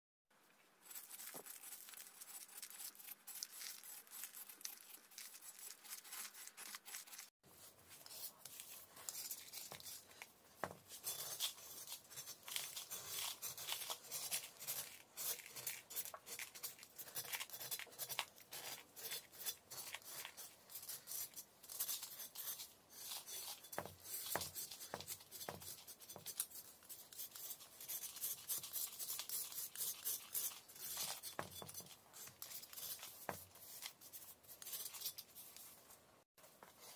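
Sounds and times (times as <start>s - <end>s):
knife scraping chalk: 0.9s - 36.9s.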